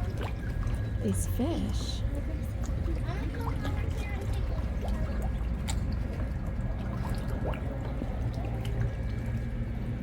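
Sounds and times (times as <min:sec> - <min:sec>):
steady low rumble: 0:00.0 - 0:10.0
water splashing and trickling: 0:00.0 - 0:10.0.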